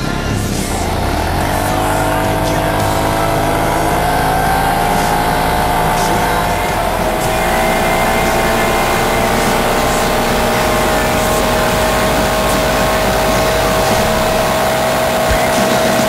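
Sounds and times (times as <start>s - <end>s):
atv engine running hard: 0.0s - 16.0s
dense rushing noise: 0.5s - 16.0s.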